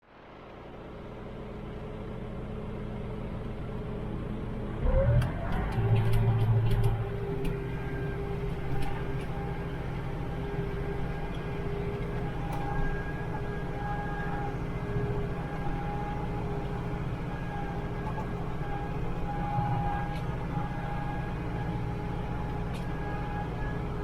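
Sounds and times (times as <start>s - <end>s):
tractor engine running: 0.1s - 24.0s.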